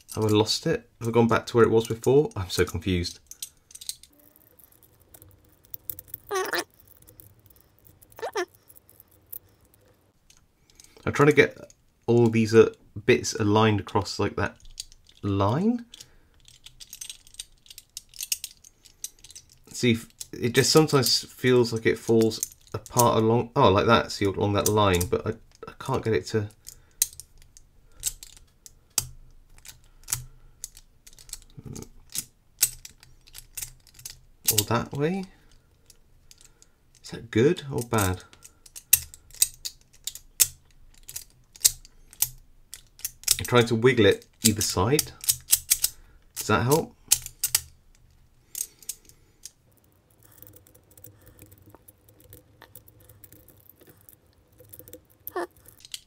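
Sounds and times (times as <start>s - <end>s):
metal puzzle pieces clinking: 0.0s - 11.0s, 14.5s - 15.3s, 15.9s - 21.1s, 21.7s - 23.2s, 26.6s - 37.1s, 37.7s - 56.0s.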